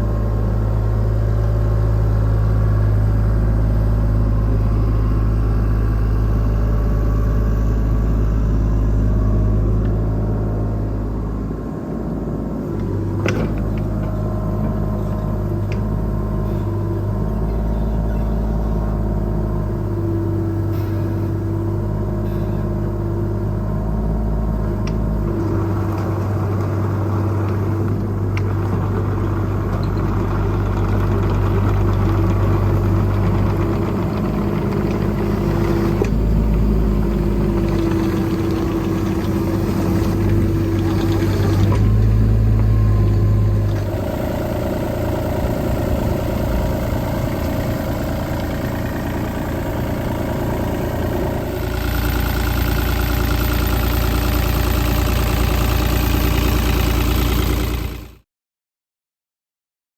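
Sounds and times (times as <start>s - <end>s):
excavator diesel engine running: 0.0s - 58.2s.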